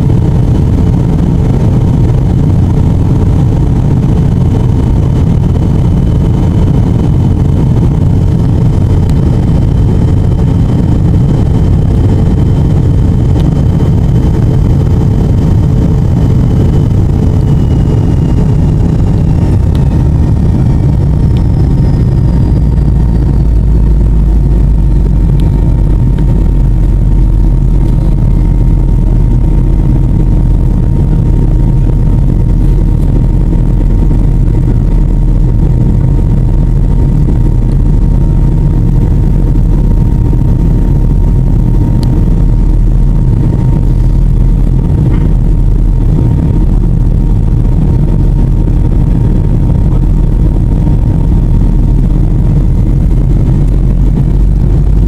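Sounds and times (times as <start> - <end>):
airliner cabin engine noise: 0.0 - 55.0
faint steady whine: 0.0 - 55.0.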